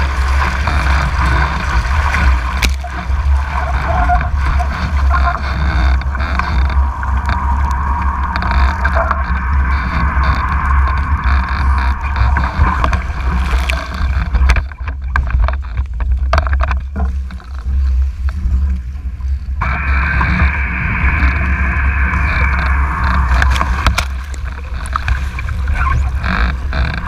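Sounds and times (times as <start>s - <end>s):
boat splashing into water: 0.0s - 15.2s, 19.6s - 27.0s
water rushing past boat: 0.0s - 27.0s
wind rumbling on camera: 0.0s - 27.0s.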